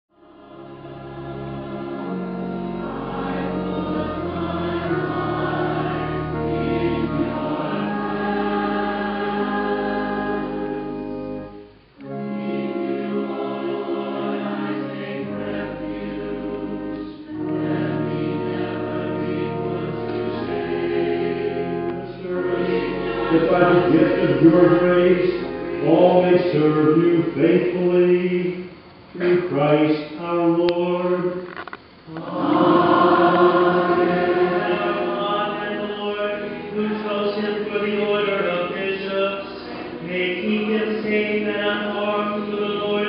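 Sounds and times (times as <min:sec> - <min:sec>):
choir singing: 0:00.2 - 0:43.0.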